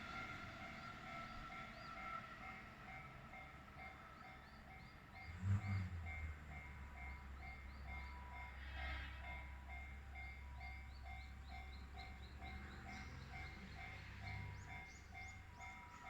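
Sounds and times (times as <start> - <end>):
level crossing warning bell: 0.0 - 16.0.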